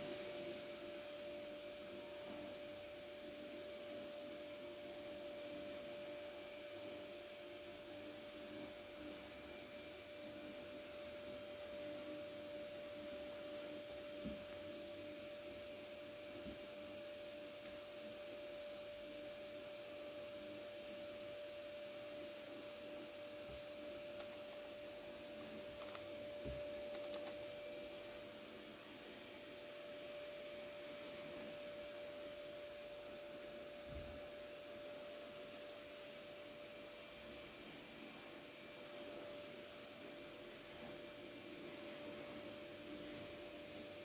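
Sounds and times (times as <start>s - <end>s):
appliance electrical hum: 0.0s - 44.0s.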